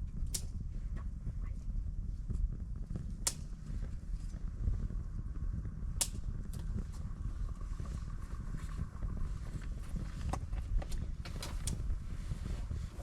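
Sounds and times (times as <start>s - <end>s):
campfire crackling: 0.0s - 13.0s
sharp pops of fire: 0.0s - 13.0s
steady low rumble: 0.0s - 13.0s.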